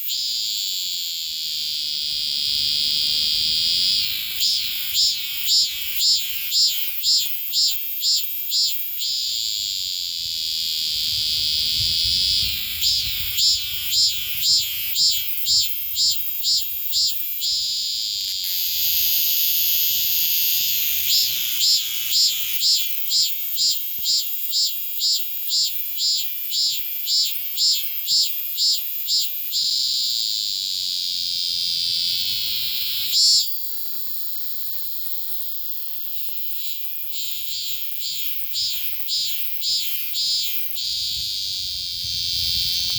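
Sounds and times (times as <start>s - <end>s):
cicada singing: 0.0s - 42.9s.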